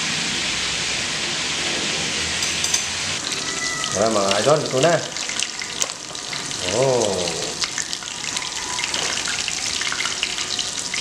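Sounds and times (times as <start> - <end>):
meat frying in oil: 0.0 - 11.0.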